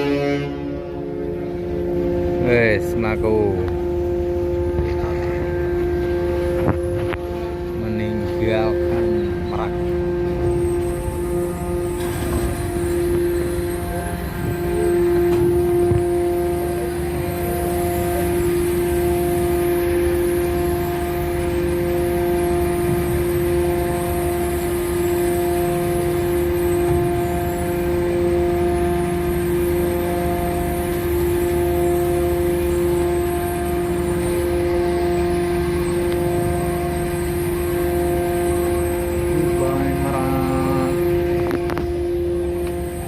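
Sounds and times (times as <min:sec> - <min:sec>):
high machine tone: 0:00.0 - 0:43.0
ship machinery drone: 0:00.0 - 0:43.0.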